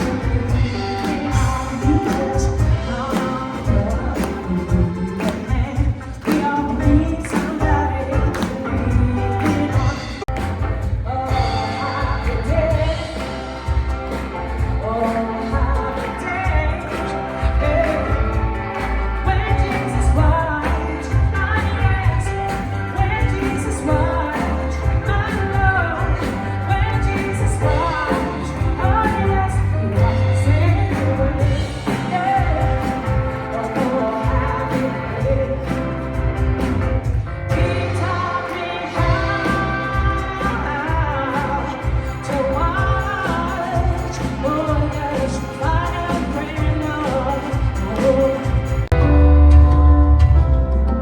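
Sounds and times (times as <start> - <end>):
woman singing soul song: 0.0 - 50.5
continuous bass: 0.0 - 51.0
instrumental accompaniment: 0.0 - 51.0.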